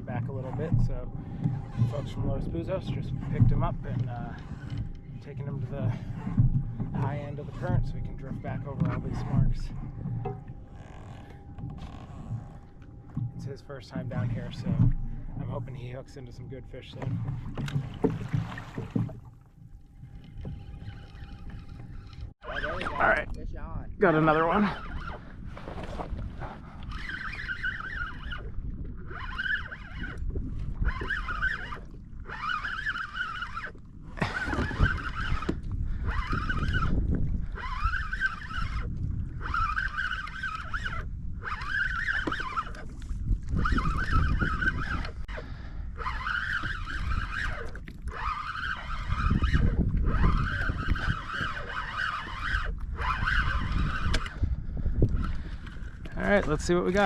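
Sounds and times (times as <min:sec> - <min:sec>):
wind noise: 0:00.0 - 0:19.3, 0:20.0 - 0:57.0
water noise: 0:00.0 - 0:57.0
fishing reel gears whining: 0:01.2 - 0:13.2, 0:20.0 - 0:23.1, 0:24.2 - 0:25.3, 0:26.8 - 0:56.7.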